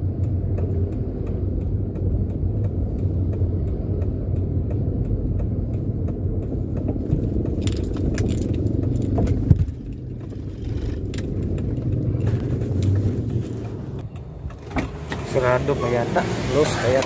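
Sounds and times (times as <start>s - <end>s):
car engine and road drone: 0.0s - 17.0s
light clicks and rattles: 0.2s - 15.4s.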